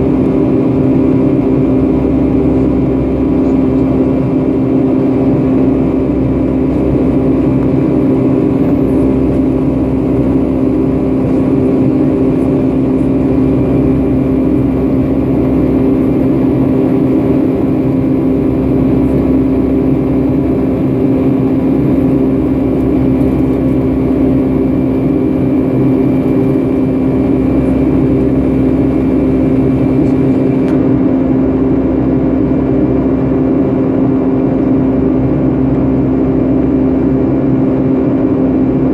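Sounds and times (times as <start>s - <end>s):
jetliner cabin drone: 0.0s - 38.9s.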